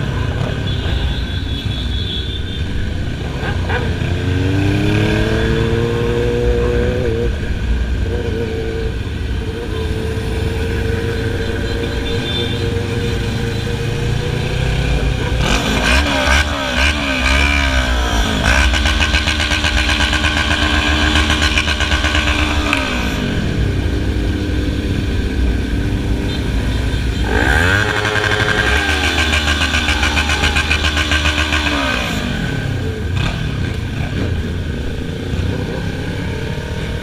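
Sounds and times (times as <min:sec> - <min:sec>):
motorcycle engine revving: 0:03.0 - 0:37.0.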